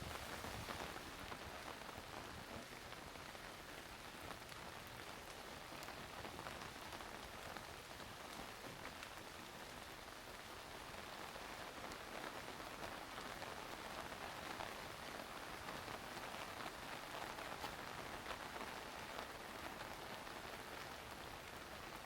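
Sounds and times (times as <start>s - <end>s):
rain pattering: 0.0s - 22.0s.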